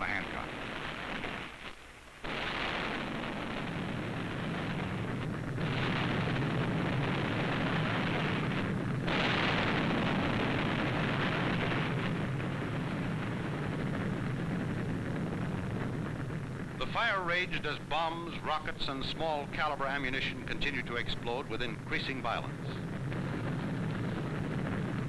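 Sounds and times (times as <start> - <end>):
explosions and fire: 0.0 - 25.0.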